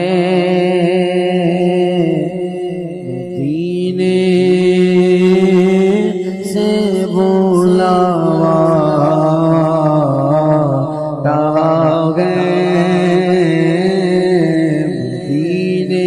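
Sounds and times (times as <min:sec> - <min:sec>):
man singing ornamented melody: 0:00.0 - 0:16.0.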